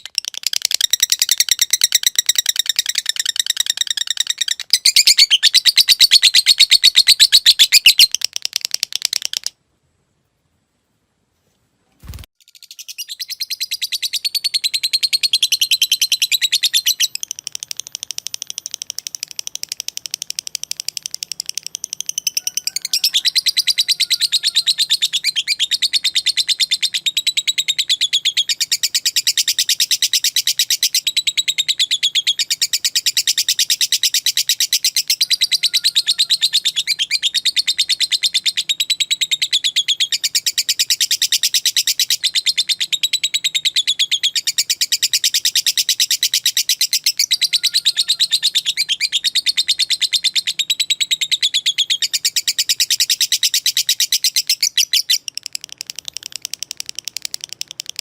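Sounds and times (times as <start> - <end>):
lovebird chattering trill: 0.0 - 9.5, 12.4 - 58.0.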